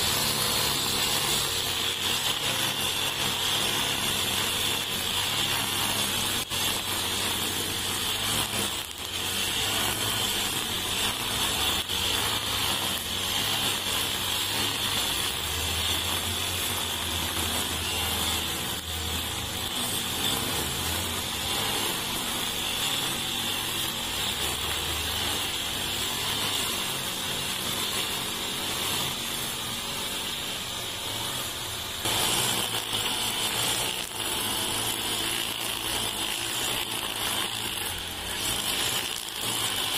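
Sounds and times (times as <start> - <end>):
brush cutter running: 0.0 - 39.9
trimmer line whirring: 0.0 - 39.9.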